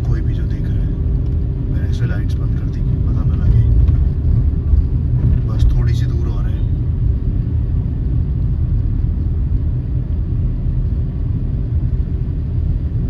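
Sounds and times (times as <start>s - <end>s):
car engine and tyre noise: 0.0s - 13.0s
faint constant hum: 0.0s - 13.0s.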